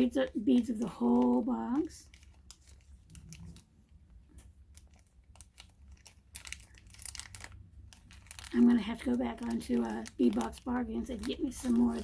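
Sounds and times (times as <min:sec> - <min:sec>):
beads and packaging clicking: 0:00.0 - 0:03.6, 0:04.2 - 0:12.0.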